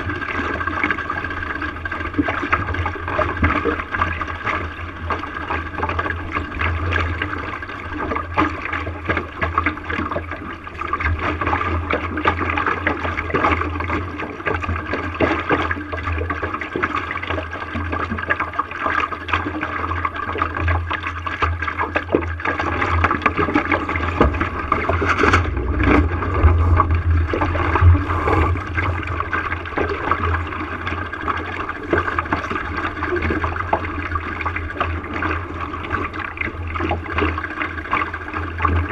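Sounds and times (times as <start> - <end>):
water splashing against boat hull: 0.0 - 38.9.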